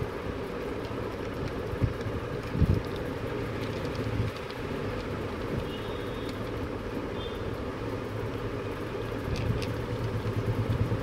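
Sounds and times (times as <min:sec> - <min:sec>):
low background rumble with hum: 0:00.0 - 0:11.0.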